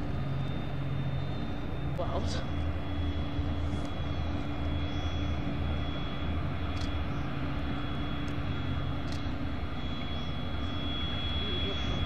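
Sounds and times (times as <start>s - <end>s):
ship machinery low drone: 0.0s - 12.0s.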